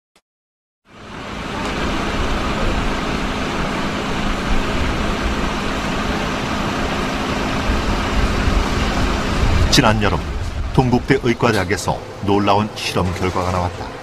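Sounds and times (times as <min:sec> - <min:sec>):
road traffic: 0:00.9 - 0:14.0.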